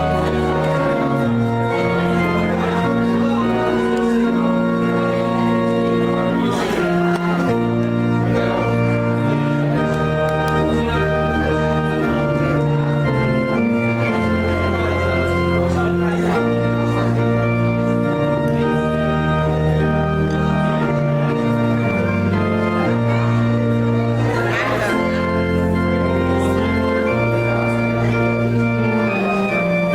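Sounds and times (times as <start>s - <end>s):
organ playing sustained chords: 0.0s - 29.9s.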